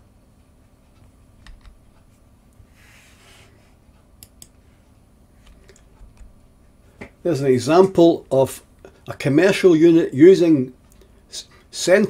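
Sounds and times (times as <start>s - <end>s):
soft hiss: 0.4s - 12.0s.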